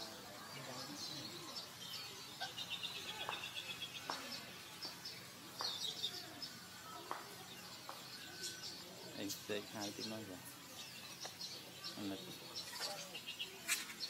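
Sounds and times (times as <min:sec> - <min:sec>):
bird trill: 0:00.0 - 0:14.0
small birds chirping: 0:00.0 - 0:14.0.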